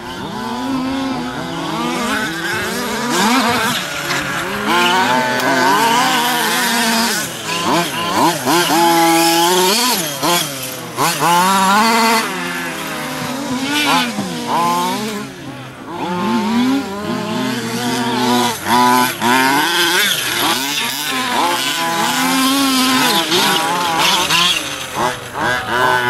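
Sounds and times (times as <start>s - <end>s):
small two-stroke engines revving: 0.0s - 26.0s.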